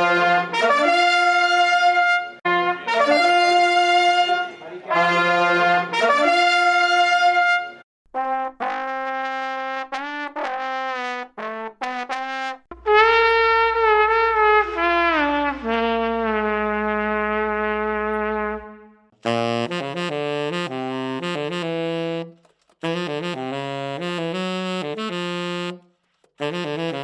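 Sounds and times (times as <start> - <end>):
trombone playing: 0.0 - 27.0
trumpet playing: 0.0 - 27.0.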